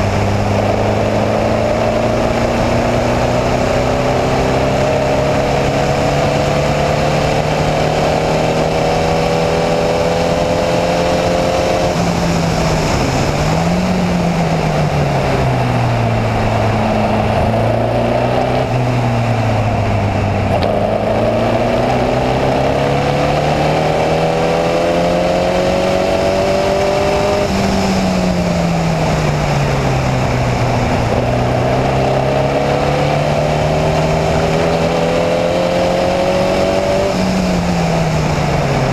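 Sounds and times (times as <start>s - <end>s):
race car engine revving: 0.0s - 38.9s
wind and tyre noise: 0.0s - 38.9s.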